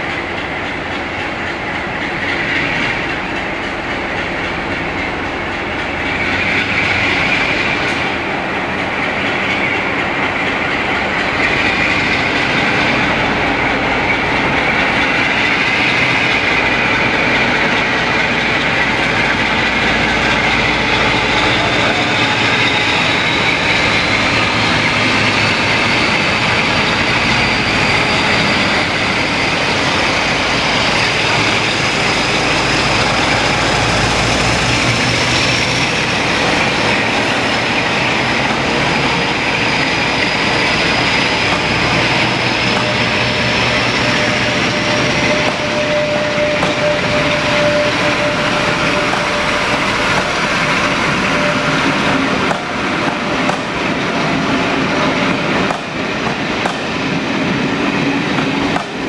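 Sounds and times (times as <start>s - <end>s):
diesel locomotive working hard: 0.0s - 59.0s
train coaches rolling by: 0.0s - 59.0s.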